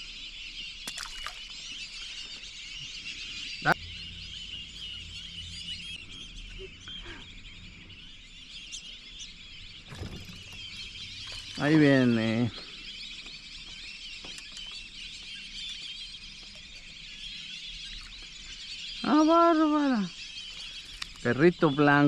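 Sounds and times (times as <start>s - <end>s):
chorus of birds calling: 0.0s - 22.0s.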